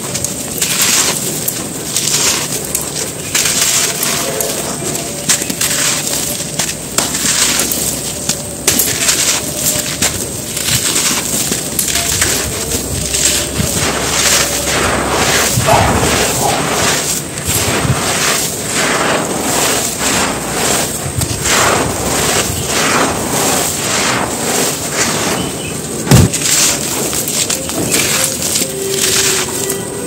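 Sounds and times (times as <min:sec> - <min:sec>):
dry dirt crunching and trickling: 0:00.0 - 0:30.0.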